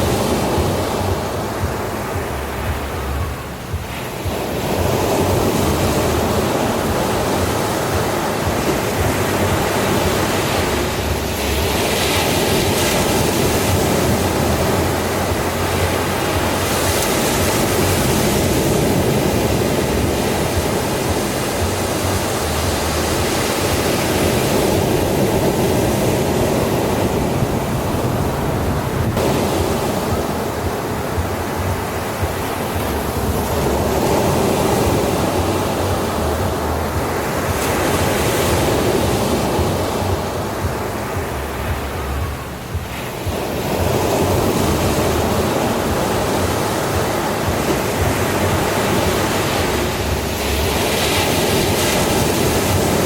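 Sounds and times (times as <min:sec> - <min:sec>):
ocean waves surf roar: 0:00.0 - 0:53.0.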